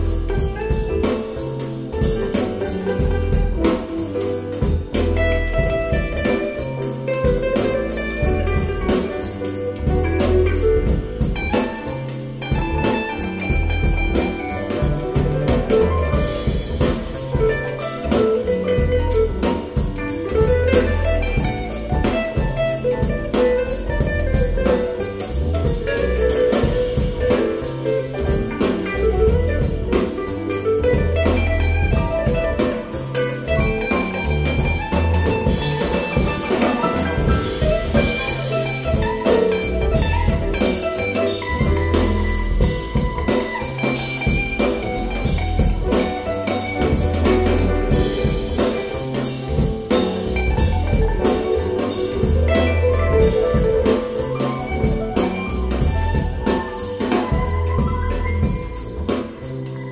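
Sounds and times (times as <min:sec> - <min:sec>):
live band music over loudspeakers: 0:00.0 - 0:59.9.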